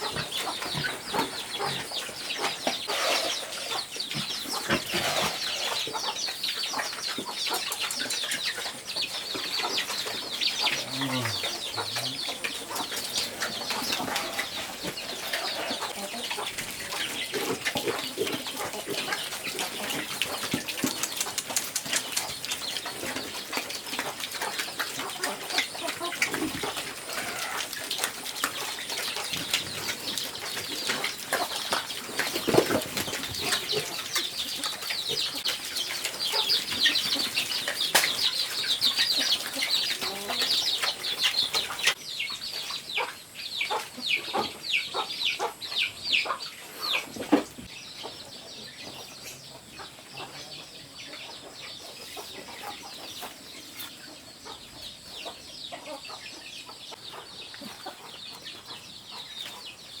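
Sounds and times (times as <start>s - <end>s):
chickens clucking: 0.0s - 60.0s.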